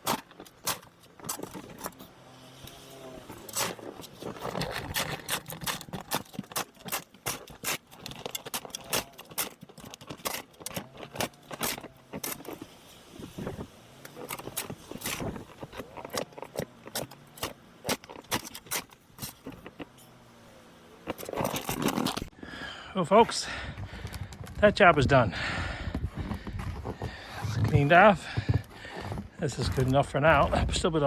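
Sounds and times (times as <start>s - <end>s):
snow shovel scraping: 0.0s - 31.0s.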